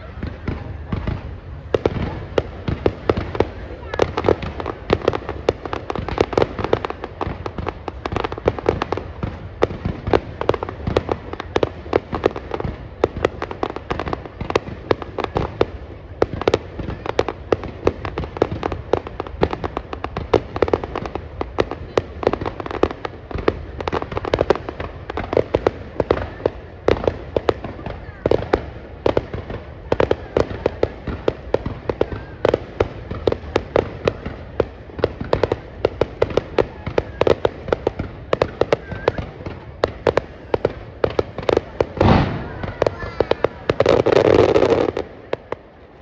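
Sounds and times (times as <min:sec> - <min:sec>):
fireworks bangs and pops: 0:00.0 - 0:46.0.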